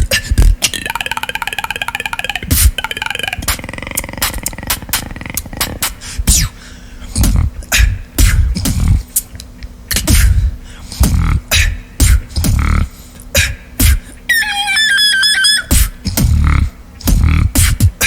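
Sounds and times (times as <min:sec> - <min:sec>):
beatboxing: 0:00.0 - 0:18.0.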